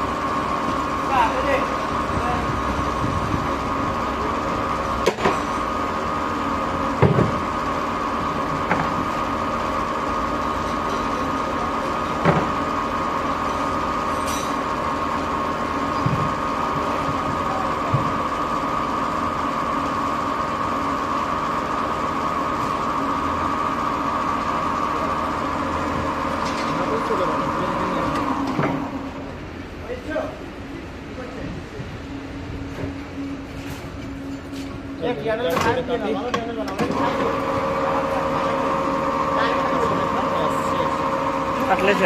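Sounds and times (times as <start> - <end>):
lathe humming and whining: 0.0 - 42.0.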